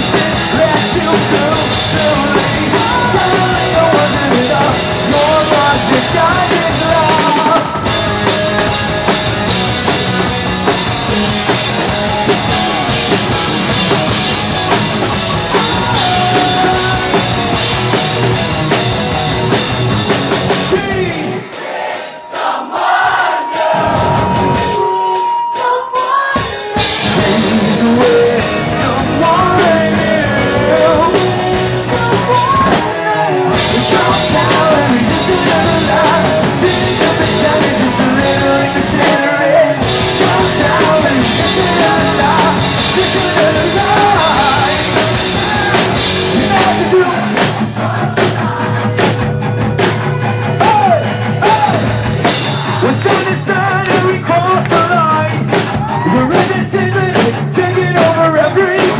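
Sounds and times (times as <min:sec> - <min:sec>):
person singing: 0:00.0 - 0:09.2, 0:15.5 - 0:17.5, 0:20.7 - 0:49.2, 0:50.6 - 0:58.9
drum kit beat: 0:00.0 - 0:58.9
live rock band playing: 0:00.0 - 0:58.9.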